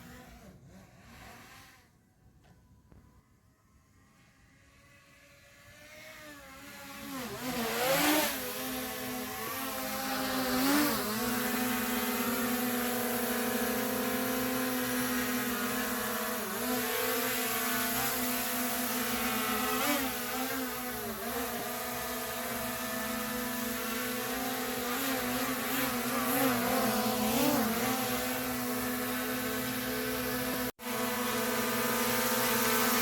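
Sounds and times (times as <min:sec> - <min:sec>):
drone propellers buzzing: 0:03.9 - 0:33.0.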